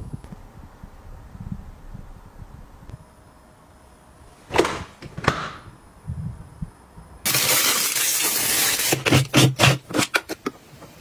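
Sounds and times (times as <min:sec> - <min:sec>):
loud steady hiss: 0:00.0 - 0:09.8.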